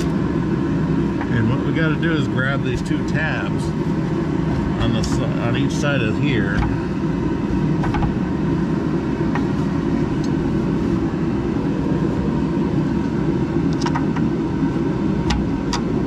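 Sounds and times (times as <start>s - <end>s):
heater rushing noise: 0.0s - 16.0s.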